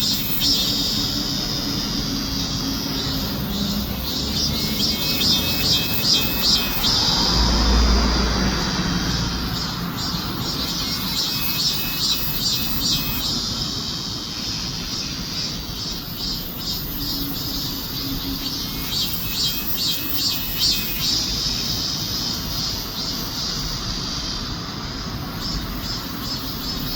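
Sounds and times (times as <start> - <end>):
cicadas singing: 0.0 - 26.9.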